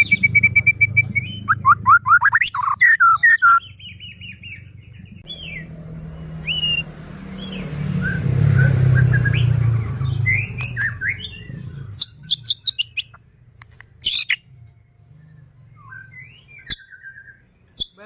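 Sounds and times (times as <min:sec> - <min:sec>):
bird whistled notes: 0:00.0 - 0:04.6, 0:06.4 - 0:09.5, 0:10.2 - 0:14.4, 0:15.0 - 0:18.0.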